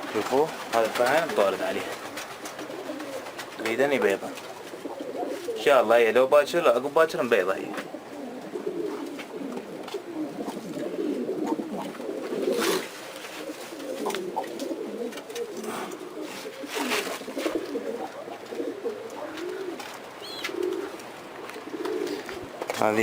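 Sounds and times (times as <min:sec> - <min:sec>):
pigeons cooing: 0:00.0 - 0:22.7.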